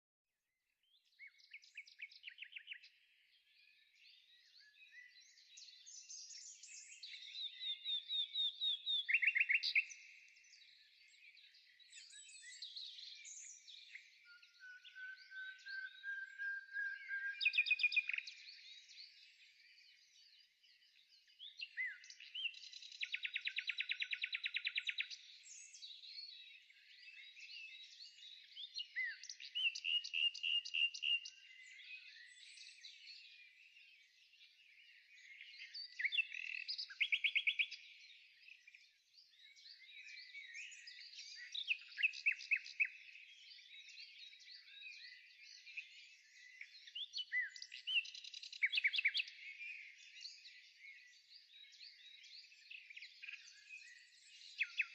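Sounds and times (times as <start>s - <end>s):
songbirds chirping and trilling: 0.8s - 54.9s.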